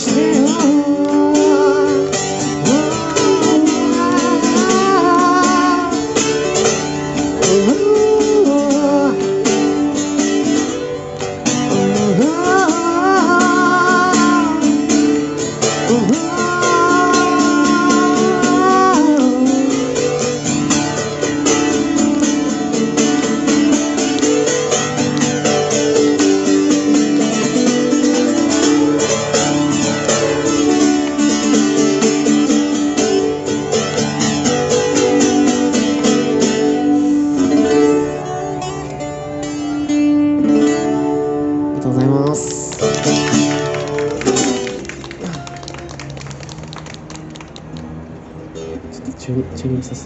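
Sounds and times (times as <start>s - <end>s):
live band guitar instrumental: 0.0s - 49.0s.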